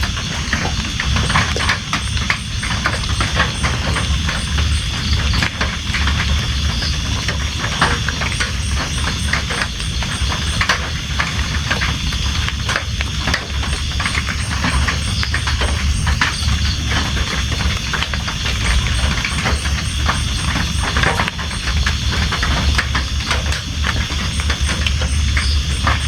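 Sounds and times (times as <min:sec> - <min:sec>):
raindrops striking a surface: 0:00.0 - 0:26.0
steady rain falling: 0:00.0 - 0:26.0.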